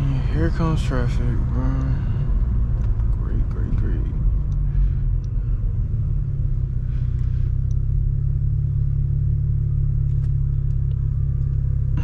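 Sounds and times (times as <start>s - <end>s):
car engine low drone from cabin: 0.0s - 12.0s.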